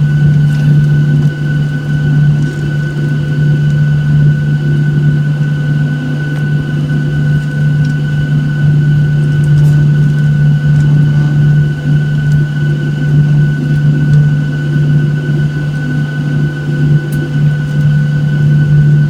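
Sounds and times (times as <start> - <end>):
high engine whine: 0.0 - 19.0
jet engine cabin drone: 0.0 - 19.0.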